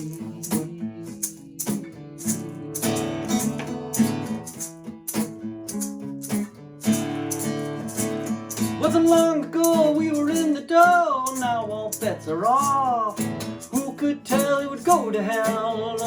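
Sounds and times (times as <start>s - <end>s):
shaker rattle: 0.0s - 16.0s
strummed acoustic guitar: 0.0s - 16.0s.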